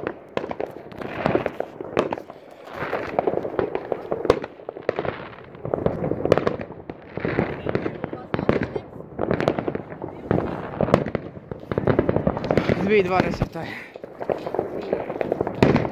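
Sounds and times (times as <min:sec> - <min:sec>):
fireworks bangs and crackling: 0:00.0 - 0:15.9.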